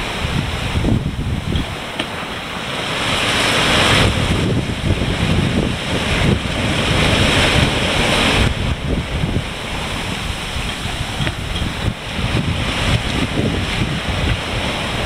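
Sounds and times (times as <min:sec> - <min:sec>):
water hissing along hull: 0:00.0 - 0:15.0
wind buffeting microphone: 0:00.0 - 0:15.0.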